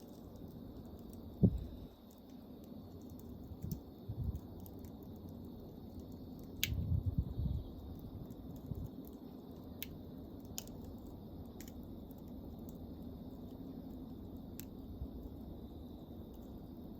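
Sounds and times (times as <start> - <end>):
campfire flames rushing: 0.0 - 16.9
wood crackling and popping: 0.0 - 16.9.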